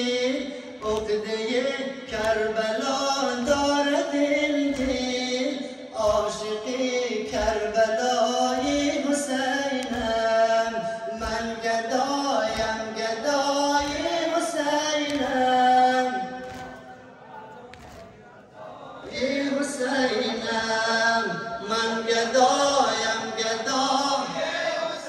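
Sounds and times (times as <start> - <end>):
voices chanting a lament: 0.0 - 25.0.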